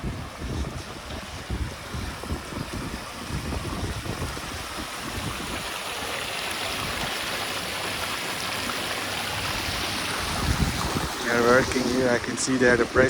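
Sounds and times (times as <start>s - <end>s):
wind gusting on microphone: 0.0s - 7.3s, 9.3s - 13.0s
rainwater running down street: 0.0s - 13.0s.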